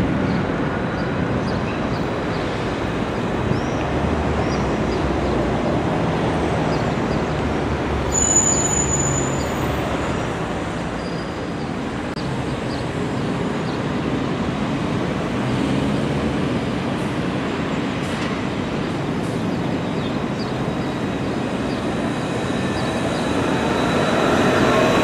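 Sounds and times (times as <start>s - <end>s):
tram motor and wheel noise: 0.0s - 25.0s.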